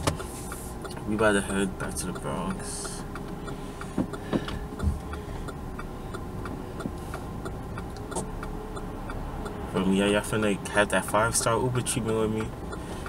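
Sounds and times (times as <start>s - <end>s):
low in-cabin hum: 0.0s - 13.0s
turn signal ticking: 0.0s - 13.0s.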